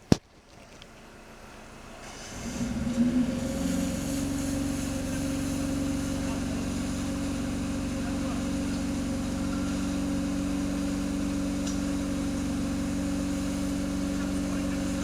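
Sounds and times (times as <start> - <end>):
vehicle engine idling: 0.7 - 15.0.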